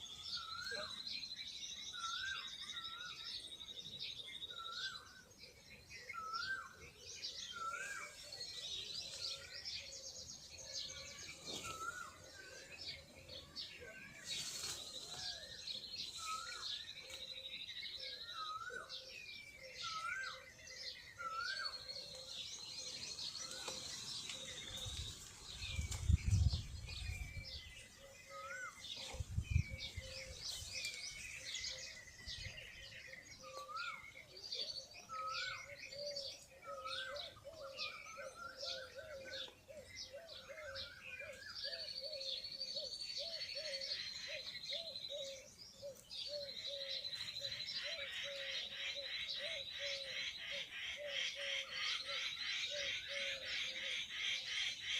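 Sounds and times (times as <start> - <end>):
birds calling and singing: 0.0 - 54.9.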